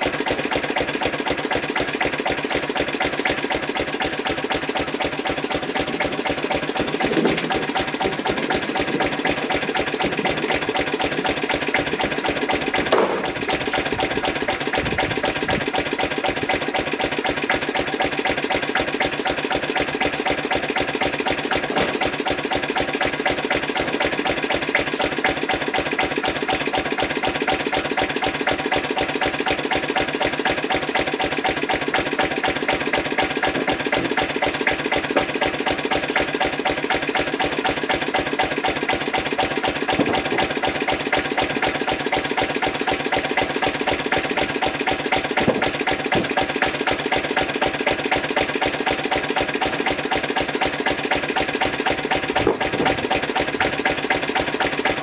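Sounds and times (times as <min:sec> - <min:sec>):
diesel engine running steadily: 0:00.0 - 0:55.0.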